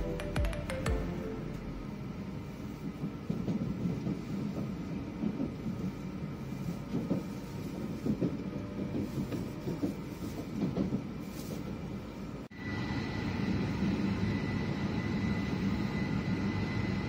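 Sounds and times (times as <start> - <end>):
wheels rumbling on rail: 1.0 - 17.0.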